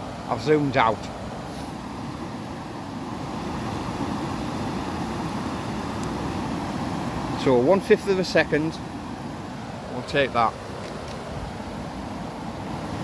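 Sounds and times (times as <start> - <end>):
river flowing over stones: 0.0 - 13.0.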